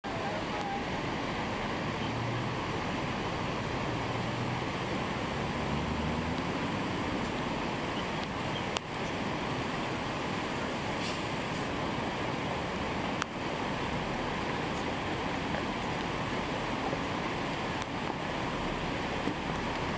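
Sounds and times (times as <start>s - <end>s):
diesel truck engine: 0.0s - 19.9s
water rushing in a creek: 0.0s - 19.9s.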